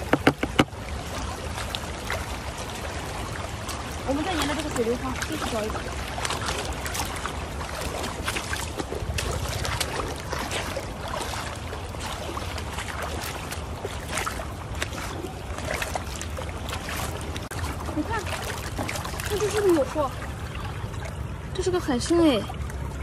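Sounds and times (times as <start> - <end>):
boots wading through water: 0.0 - 23.0
rushing water: 0.0 - 23.0
wind rumble on microphone: 0.0 - 23.0.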